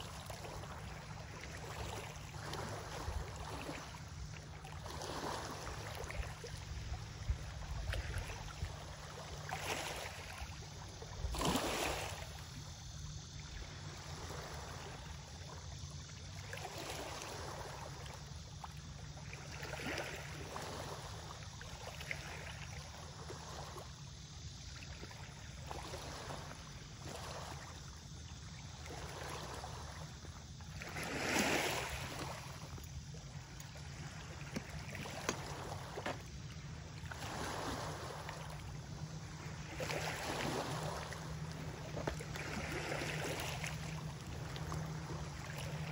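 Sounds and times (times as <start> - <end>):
small waves lapping on rocks: 0.0 - 45.9.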